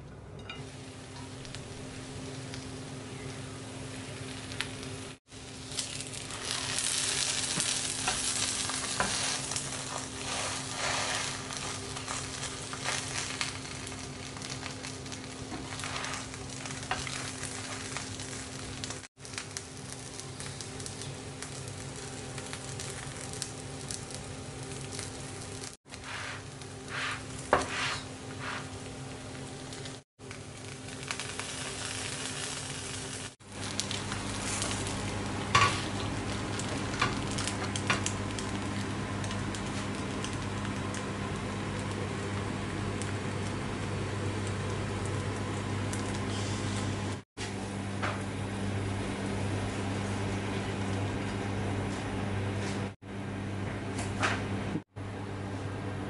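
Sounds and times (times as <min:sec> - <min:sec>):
crepe sizzling in oil: 0:00.4 - 0:53.0.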